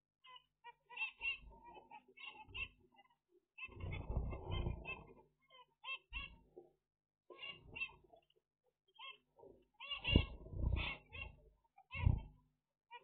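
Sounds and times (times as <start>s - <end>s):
finches beeping calls: 0.2s - 6.6s, 7.3s - 13.0s.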